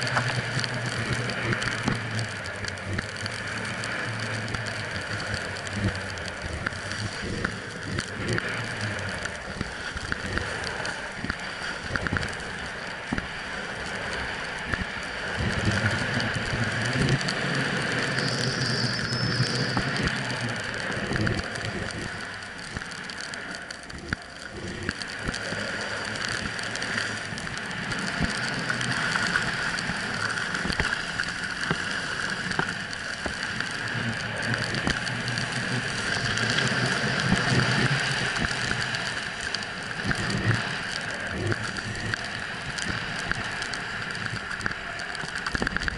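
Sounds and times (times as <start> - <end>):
snowboard scraping over snow: 0.0 - 45.0.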